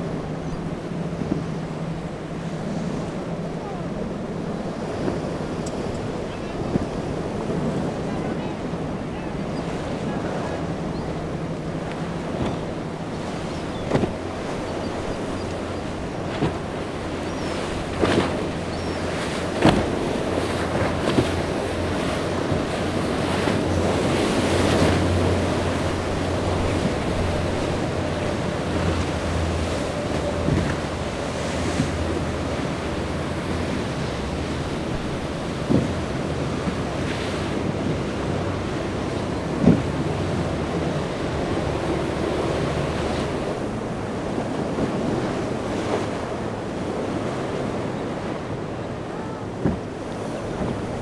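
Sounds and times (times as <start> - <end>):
boat engines droning: 0.0 - 51.0
surf and waves rushing: 0.0 - 51.0
wind on microphone: 0.0 - 51.0.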